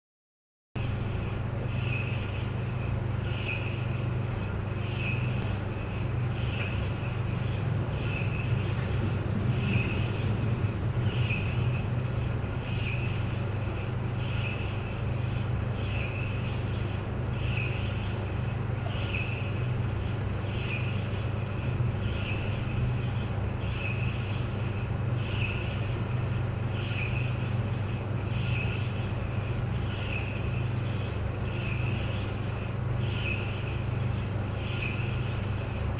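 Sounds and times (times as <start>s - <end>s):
clothes dryer humming: 0.8s - 35.9s.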